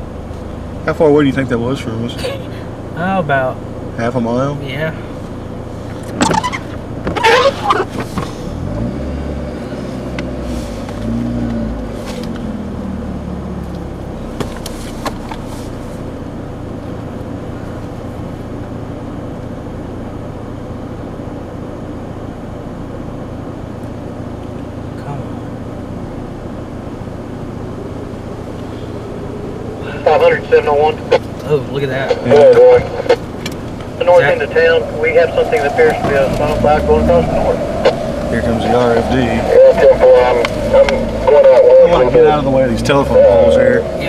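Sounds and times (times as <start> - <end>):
car engine: 0.0 - 44.0
road noise: 0.0 - 44.0.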